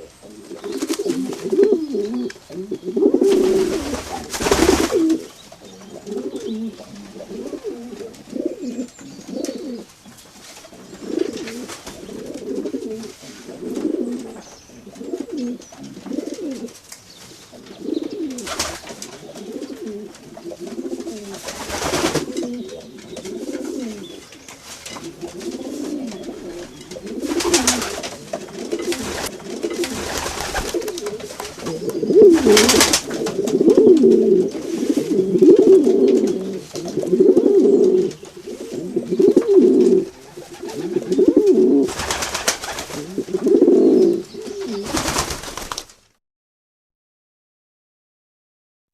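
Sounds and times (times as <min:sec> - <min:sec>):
pigeons cooing: 0:00.0 - 0:09.9, 0:10.6 - 0:16.8, 0:17.4 - 0:45.4.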